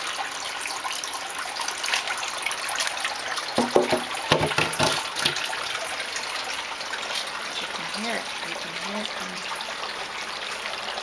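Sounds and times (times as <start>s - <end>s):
water trickling into pit: 0.0s - 11.0s.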